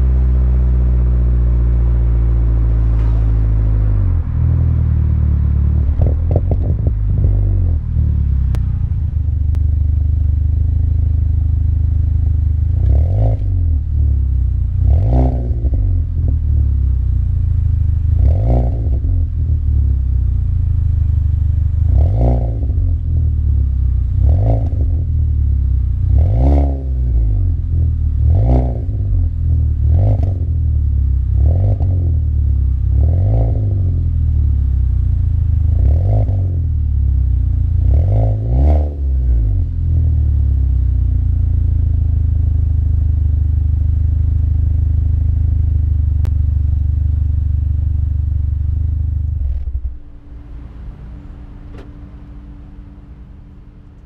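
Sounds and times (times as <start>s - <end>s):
car engine revving: 0.0s - 43.3s.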